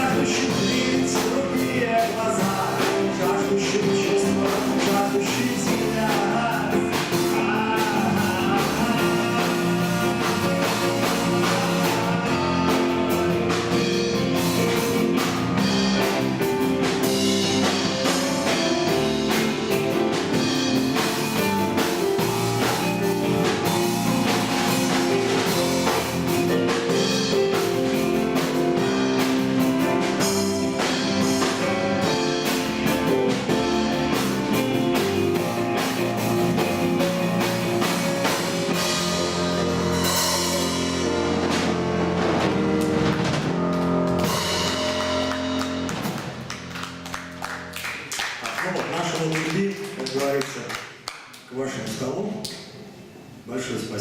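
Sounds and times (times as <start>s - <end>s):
rock band playing: 0.0s - 49.1s.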